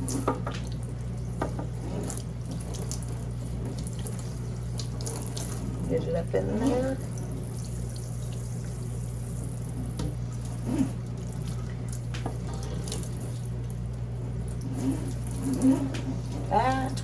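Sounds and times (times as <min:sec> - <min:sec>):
water running from sink sprayer: 0:00.0 - 0:17.0.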